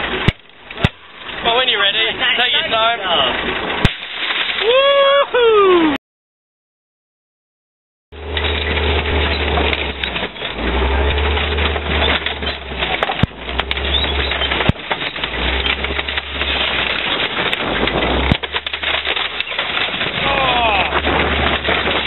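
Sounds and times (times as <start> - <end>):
car body crunching: 0.0 - 4.9, 8.2 - 22.0
metal and glass cracking: 0.0 - 4.9, 8.2 - 22.0
tank engine rumble: 0.0 - 5.4, 8.1 - 22.0.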